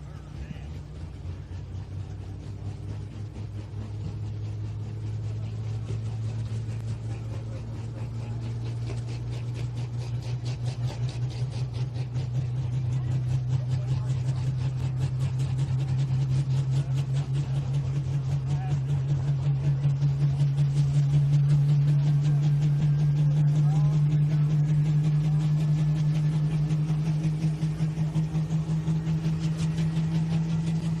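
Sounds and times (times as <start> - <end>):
diesel tractor engine running hard: 0.0 - 31.0
rapid even pulsing: 0.0 - 31.0.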